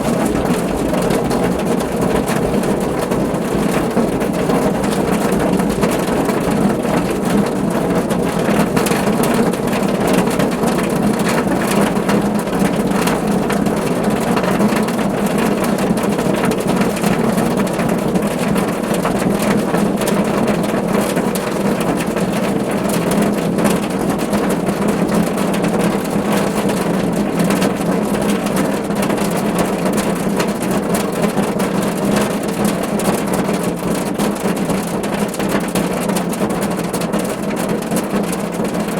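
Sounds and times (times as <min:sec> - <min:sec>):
rain drumming on car roof: 0:00.0 - 0:38.9.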